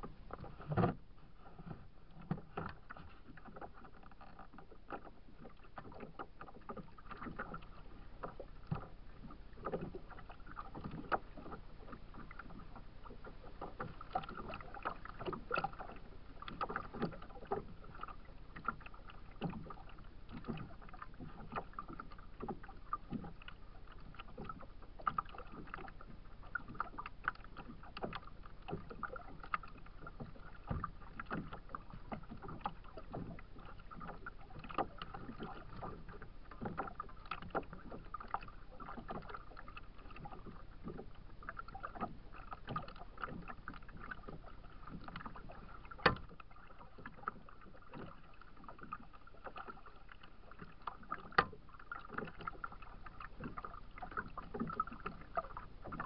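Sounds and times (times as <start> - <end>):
waves lapping against kayak hull: 0.0 - 56.0.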